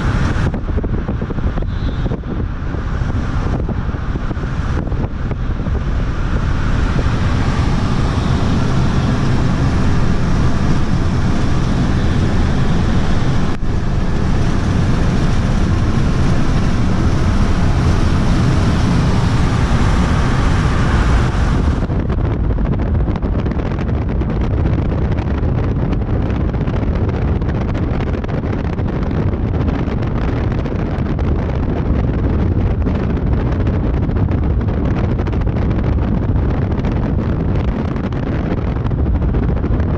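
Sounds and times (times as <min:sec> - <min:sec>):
engine running: 0:00.0 - 0:39.9
wind buffeting microphone: 0:00.0 - 0:39.9.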